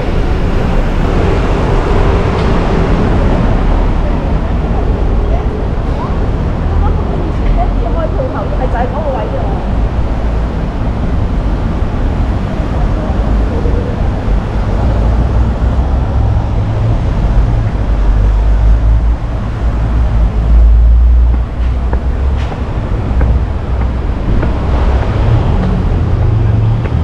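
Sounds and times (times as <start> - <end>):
low street rumble: 0.0 - 27.0.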